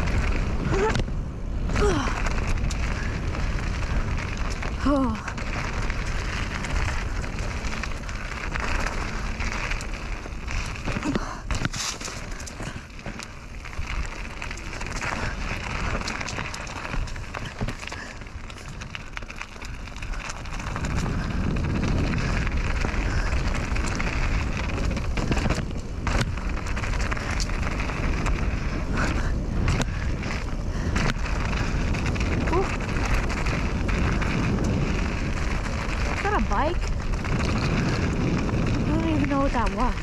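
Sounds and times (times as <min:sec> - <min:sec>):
bike rattling and clicking: 0:00.0 - 0:40.0
tyres rolling over dirt and rocks: 0:00.0 - 0:40.0
wind rumble on microphone: 0:00.0 - 0:40.0.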